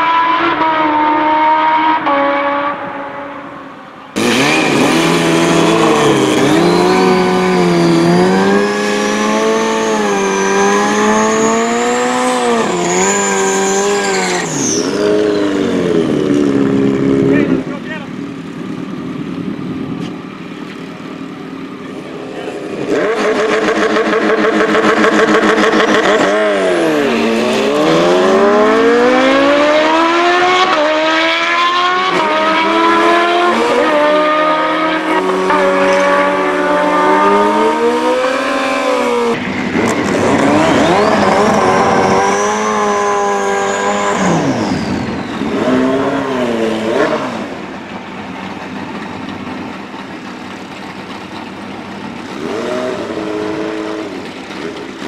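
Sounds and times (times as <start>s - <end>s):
motorcycle engines at full throttle: 0.0s - 55.0s.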